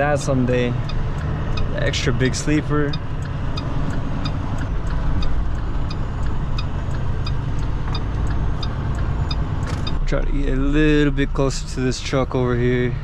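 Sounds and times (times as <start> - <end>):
truck diesel engine rumbling: 0.0 - 13.0
turn signal ticking: 0.0 - 13.0.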